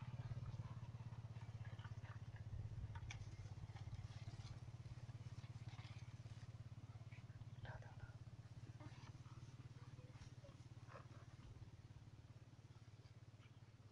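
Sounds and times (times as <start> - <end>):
small engine humming: 0.0 - 13.9.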